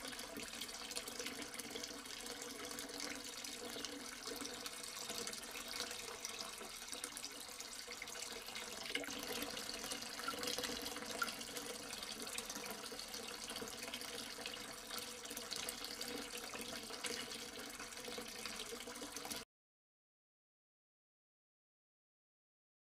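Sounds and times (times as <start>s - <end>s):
small water drips: 0.0s - 19.4s
water trickling in fountain: 0.0s - 19.4s.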